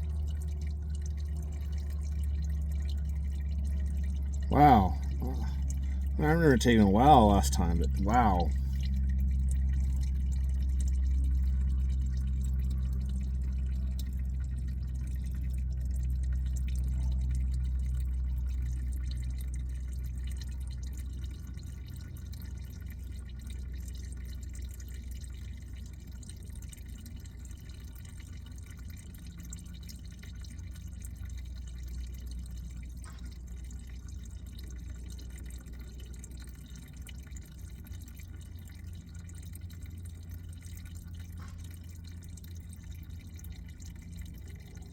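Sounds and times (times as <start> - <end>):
oil draining into a pan: 0.0 - 44.9.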